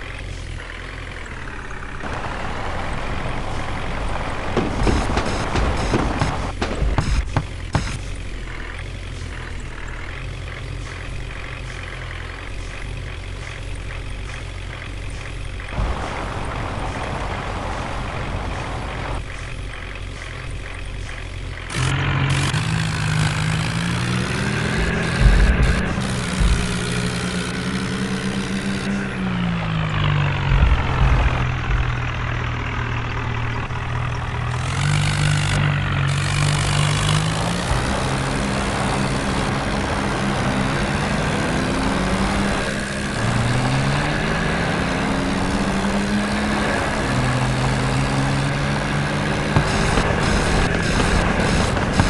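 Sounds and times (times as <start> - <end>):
tractor engine running under load: 0.0 - 52.0.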